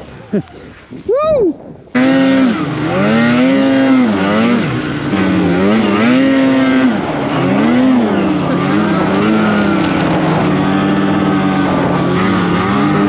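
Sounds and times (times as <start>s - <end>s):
snowmobile engine revving: 1.9s - 13.0s.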